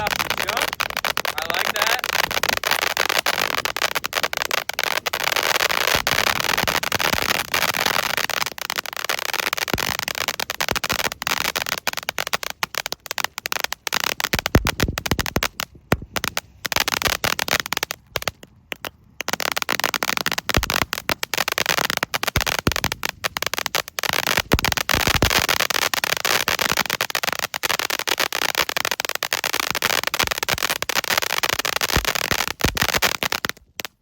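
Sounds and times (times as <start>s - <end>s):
firework fountain crackling: 0.0s - 34.0s.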